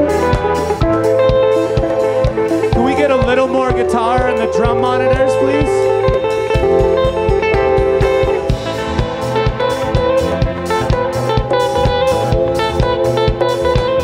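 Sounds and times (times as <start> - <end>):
bass: 0.0 - 14.0
electric guitar: 0.0 - 14.0
steady drum beat: 0.0 - 14.0.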